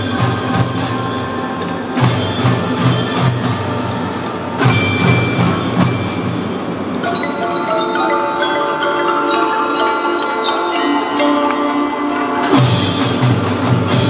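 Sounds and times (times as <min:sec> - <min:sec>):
mallet instruments playing melody: 0:00.0 - 0:14.0.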